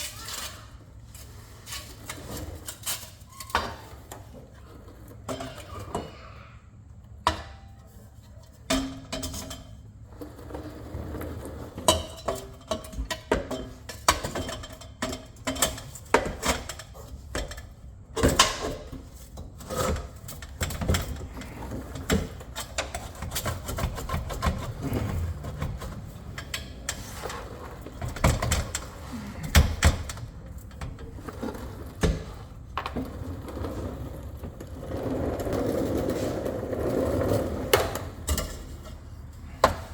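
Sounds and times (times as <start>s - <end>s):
hand tools and metal parts clanking: 0.0s - 6.2s, 7.0s - 10.7s, 11.7s - 34.6s, 37.3s - 39.9s.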